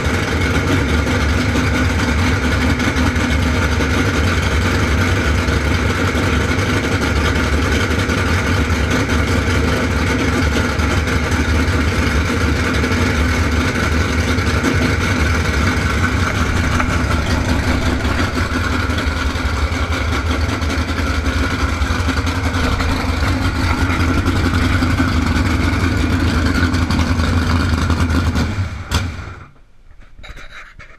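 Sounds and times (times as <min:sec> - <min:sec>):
boat engine running: 0:00.0 - 0:29.1.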